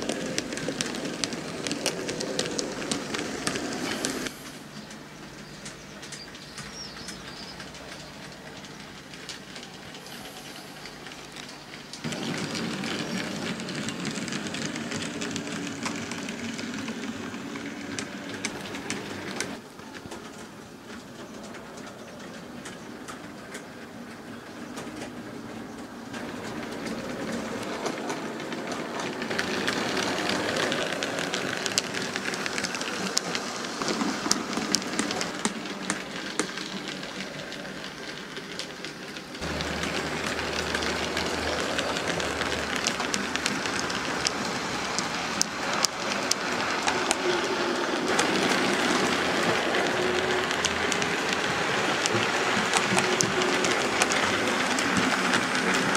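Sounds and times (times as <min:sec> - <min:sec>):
clicks over rail joints: 0:00.0 - 0:55.9
model train wheels rattling: 0:00.0 - 0:55.9.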